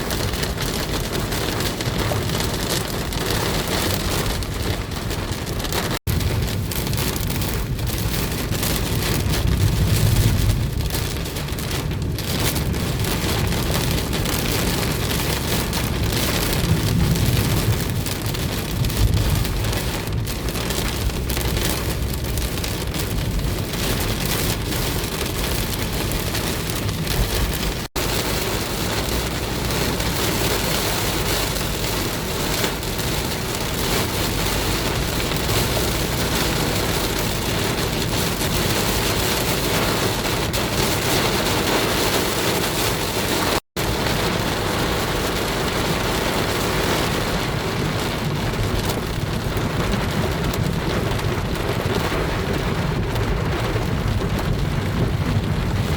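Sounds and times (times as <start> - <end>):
rain pattering on a car: 0.0 - 55.9.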